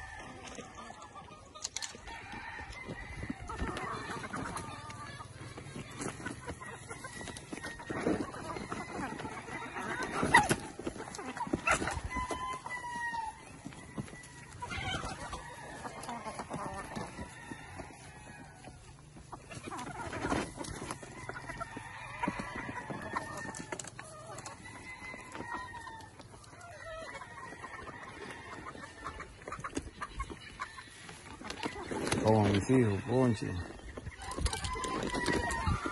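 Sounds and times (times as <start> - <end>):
chickens clucking: 0.0 - 35.9
roosters crowing: 0.0 - 35.9.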